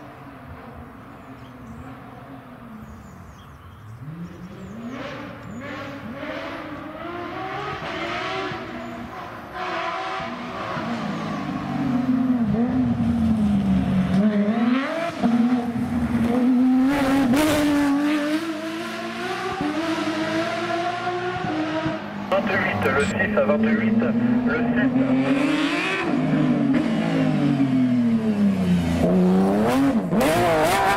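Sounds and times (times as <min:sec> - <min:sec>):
rally car engine revving: 0:03.9 - 0:30.9.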